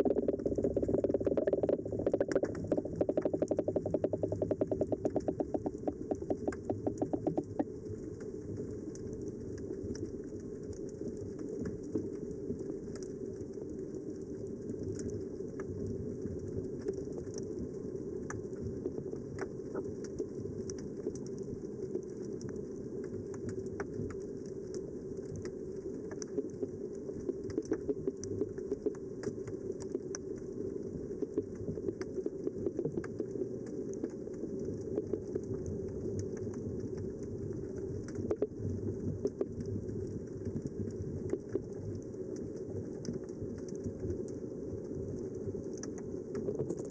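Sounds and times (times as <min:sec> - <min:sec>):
muffled underwater rumble: 0:00.0 - 0:46.9
light clicks and crackles: 0:00.1 - 0:46.9.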